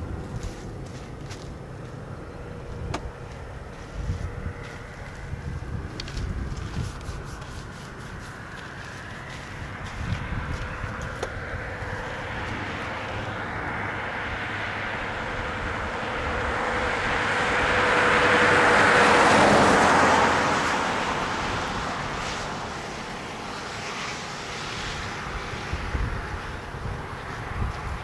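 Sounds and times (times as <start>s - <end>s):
vehicle passing by: 0.0s - 28.0s.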